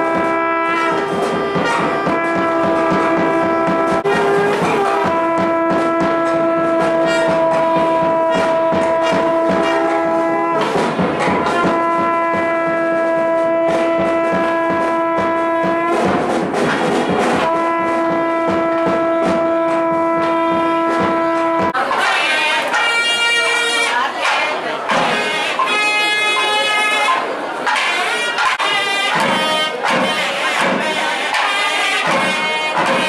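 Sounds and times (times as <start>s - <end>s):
horn-like wind instrument blasts: 0.0s - 24.1s, 24.9s - 33.0s
rapid percussion beats: 0.0s - 33.0s.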